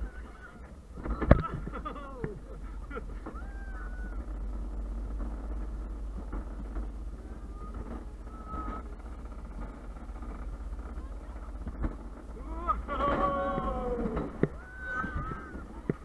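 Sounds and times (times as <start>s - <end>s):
cart wheels rumbling on concrete: 0.0s - 16.0s
wind buffeting microphone: 0.0s - 16.0s.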